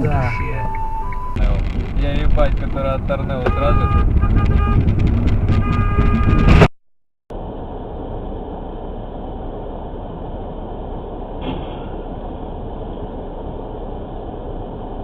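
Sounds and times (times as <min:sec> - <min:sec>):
car road and engine noise: 0:00.0 - 0:06.7, 0:07.3 - 0:15.0.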